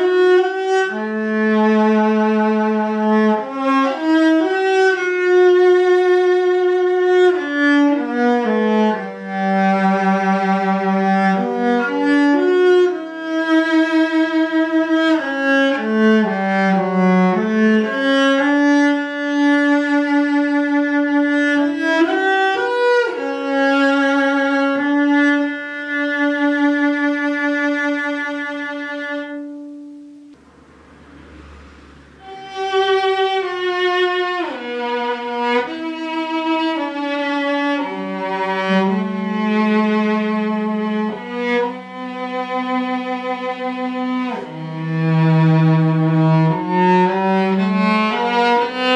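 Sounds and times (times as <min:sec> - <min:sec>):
cello bowed slow melody: 0:00.0 - 0:48.9
second cello playing: 0:00.0 - 0:48.9.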